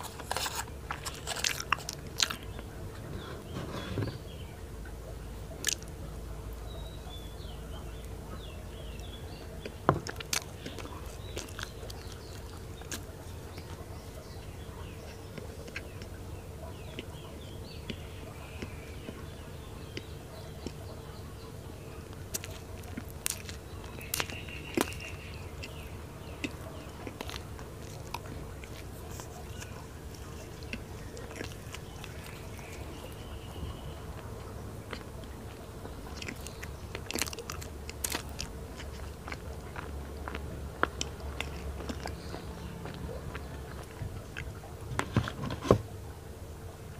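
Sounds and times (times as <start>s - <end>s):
biting and chewing sticky sweet: 0.0s - 46.9s
faint hum: 0.0s - 46.9s.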